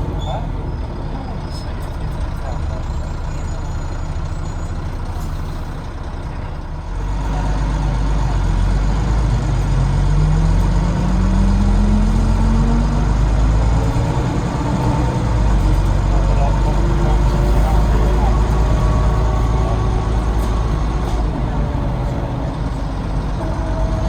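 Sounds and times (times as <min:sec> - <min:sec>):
bus engine pulling away: 0:00.0 - 0:24.0.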